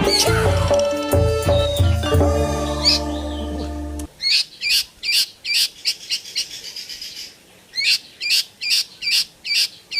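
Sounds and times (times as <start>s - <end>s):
songbird chirping: 0.0s - 9.9s.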